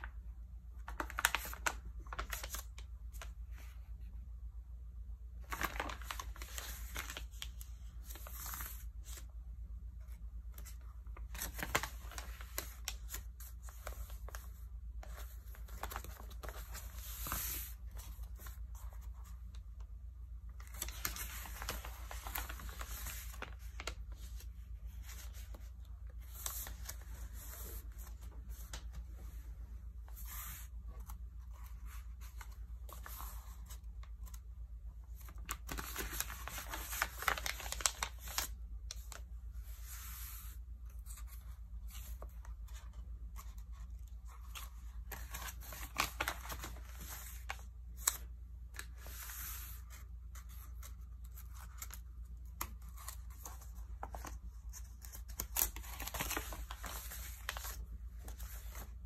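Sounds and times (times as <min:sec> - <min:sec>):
magazine pages rustling and crinkling: 0:00.0 - 0:04.0, 0:05.3 - 0:09.3, 0:10.0 - 0:59.0.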